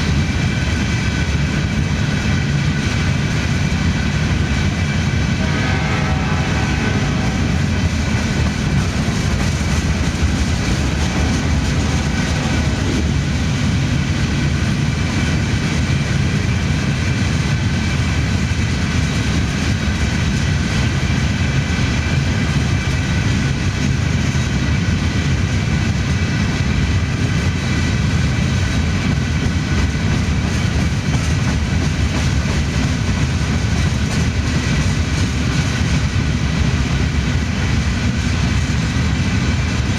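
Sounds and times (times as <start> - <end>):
freight cars rolling on rails: 0.0 - 39.9.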